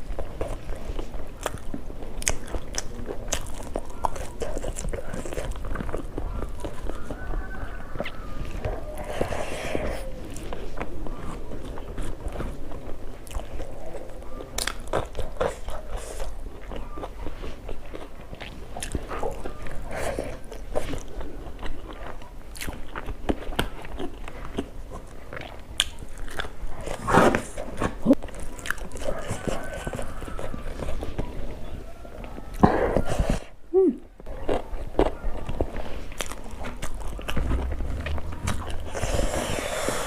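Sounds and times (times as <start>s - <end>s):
person chewing crunchy food: 0.0s - 33.6s, 34.2s - 40.0s.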